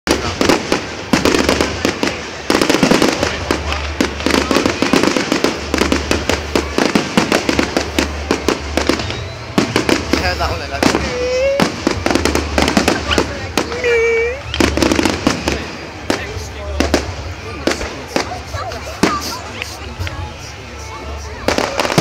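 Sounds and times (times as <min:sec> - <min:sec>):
firework crackling: 0:00.1 - 0:22.0.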